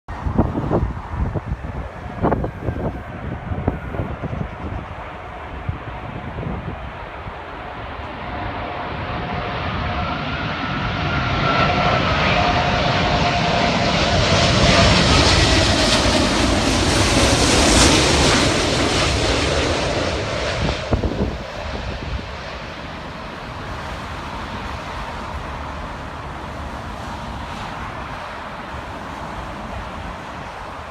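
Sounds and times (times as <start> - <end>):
jet airliner engine whine: 0.1 - 30.9
wind rumbling on microphone: 0.1 - 30.9.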